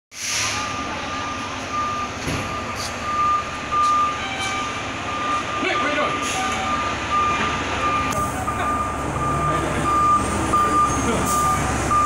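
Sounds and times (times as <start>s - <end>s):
truck engine rumbling: 0.2s - 12.0s
reverse alarm beeping: 0.4s - 12.0s.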